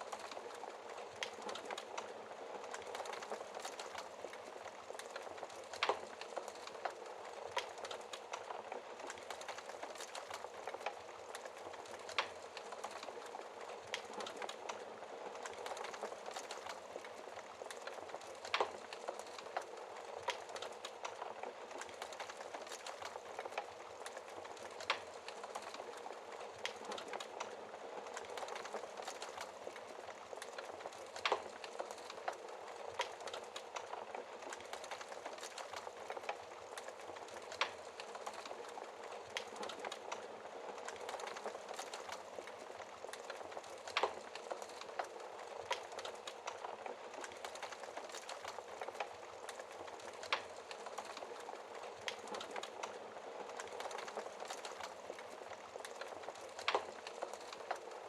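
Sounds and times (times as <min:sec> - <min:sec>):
fireplace fire crackling: 0:00.0 - 0:58.0.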